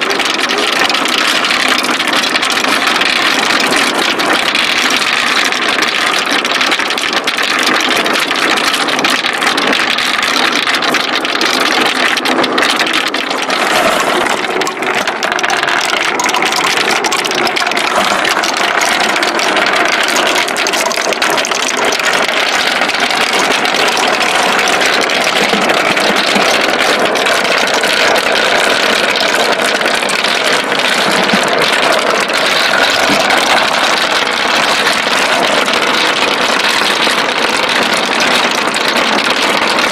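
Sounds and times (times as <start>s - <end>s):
marbles rolling down wooden run: 0.0s - 39.9s.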